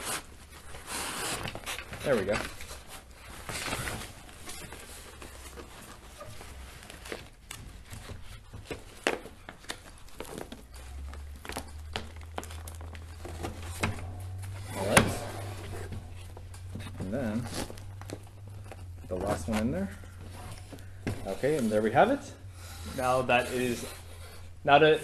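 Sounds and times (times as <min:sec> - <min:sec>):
fabric rustling: 0:00.0 - 0:25.0.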